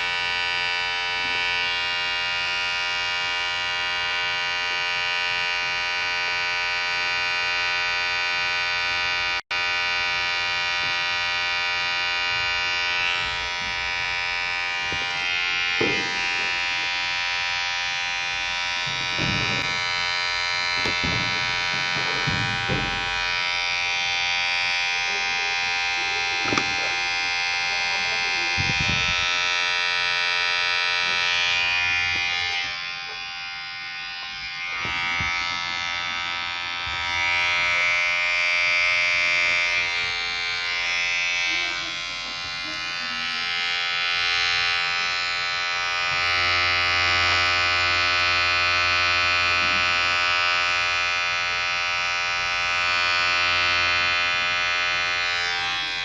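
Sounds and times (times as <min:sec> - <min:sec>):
electric hair clipper buzzing: 0:00.0 - 0:56.0.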